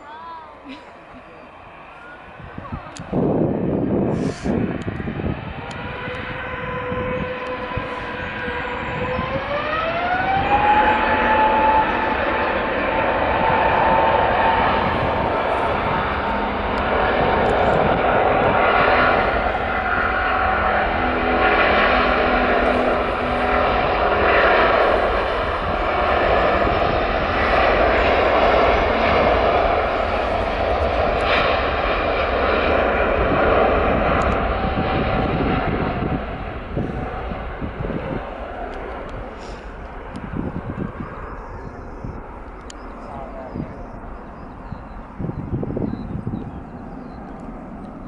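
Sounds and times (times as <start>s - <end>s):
jet engines roaring: 0.0s - 48.0s
engine whining tone: 1.4s - 48.0s.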